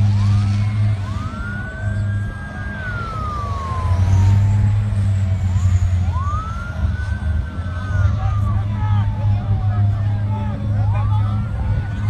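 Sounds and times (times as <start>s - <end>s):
emergency siren wailing: 0.0s - 12.0s
vehicle engines rumbling: 0.0s - 12.0s.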